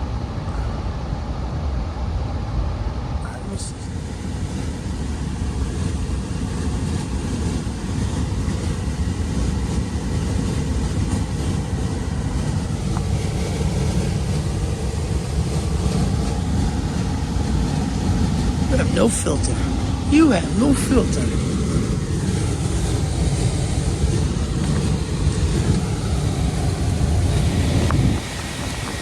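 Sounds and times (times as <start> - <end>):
blower running: 3.9 - 29.0.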